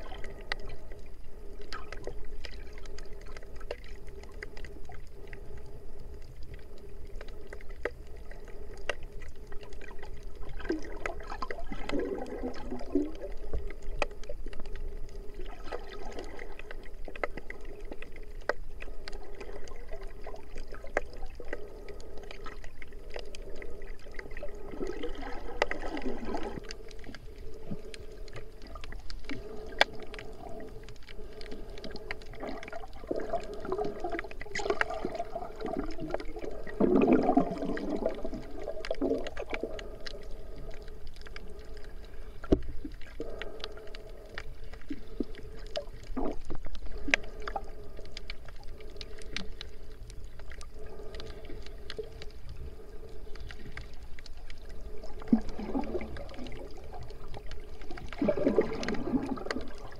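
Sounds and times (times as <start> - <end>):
constant low hum: 0.0 - 59.9
sharp underwater clicks: 0.0 - 59.9
underwater water noise: 0.0 - 59.9.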